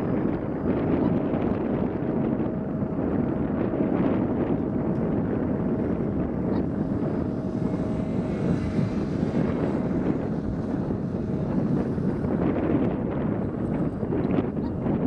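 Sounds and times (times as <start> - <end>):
aircraft engines running: 0.0 - 15.0
wind buffeting microphone: 0.0 - 15.0.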